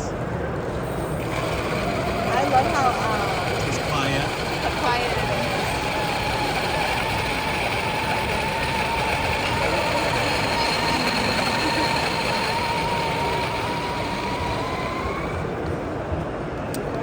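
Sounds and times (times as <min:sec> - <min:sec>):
steady background noise: 0:00.0 - 0:17.0
coffee grinder motor whine: 0:01.2 - 0:15.7.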